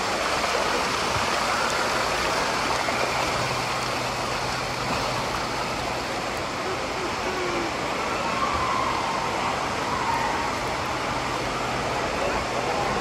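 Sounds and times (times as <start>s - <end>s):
water cascading down steps: 0.0s - 13.0s.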